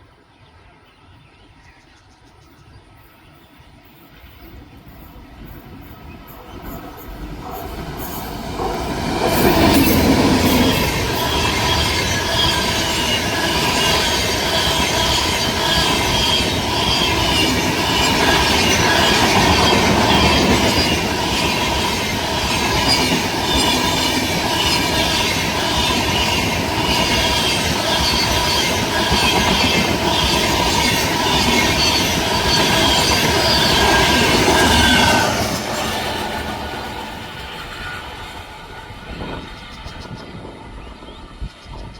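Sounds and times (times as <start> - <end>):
train passing at speed: 0.0 - 41.9
wheels squealing on rails: 3.8 - 41.3
train wheel clatter: 4.1 - 40.4.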